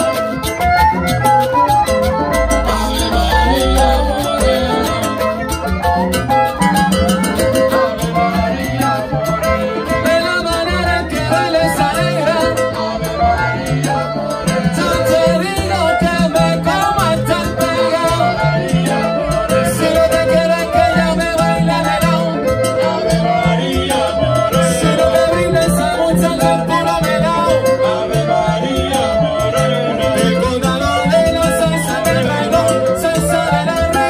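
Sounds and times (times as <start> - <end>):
live salsa band: 0.0 - 34.0
repeating bass line: 0.0 - 34.0.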